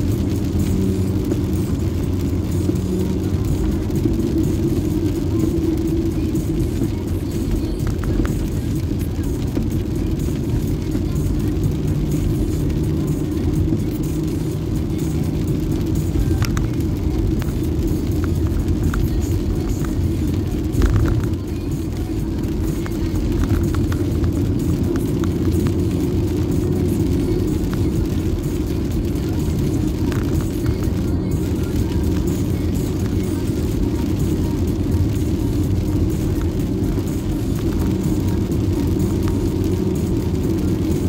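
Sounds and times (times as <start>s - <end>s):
car cabin road rumble: 0.0s - 41.0s.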